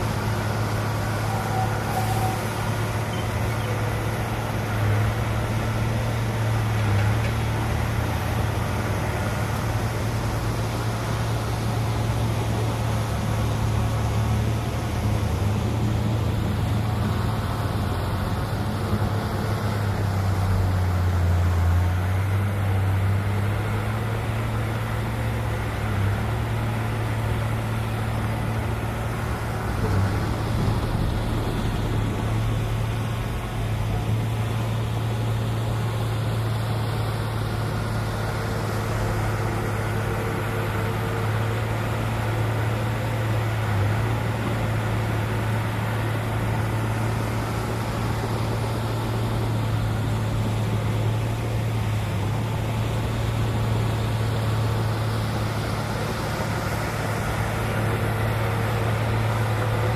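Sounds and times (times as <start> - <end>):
heavy machinery engine hum: 0.0 - 59.9.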